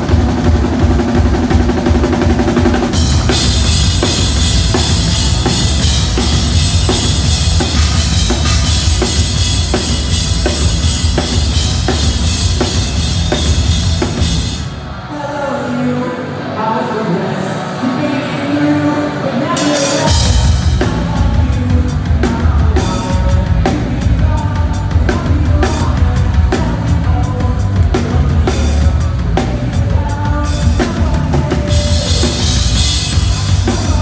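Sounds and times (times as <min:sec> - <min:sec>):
pounding drum kit: 0:00.0 - 0:15.4, 0:19.1 - 0:34.0
rock band playing live: 0:00.0 - 0:34.0.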